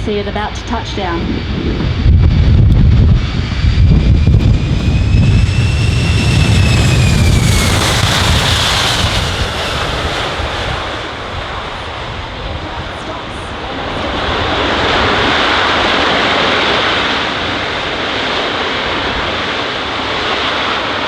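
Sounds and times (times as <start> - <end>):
jet plane landing: 0.0 - 21.0.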